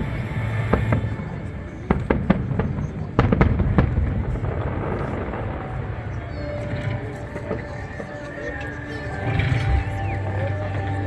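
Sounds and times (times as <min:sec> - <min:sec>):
fireworks bursting: 0:00.0 - 0:10.3
low rumbling echo: 0:00.0 - 0:11.0.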